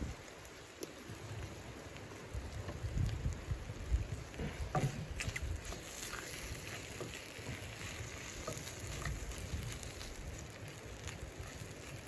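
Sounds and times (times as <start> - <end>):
chicken sizzling in frying pan: 1.9 - 12.0.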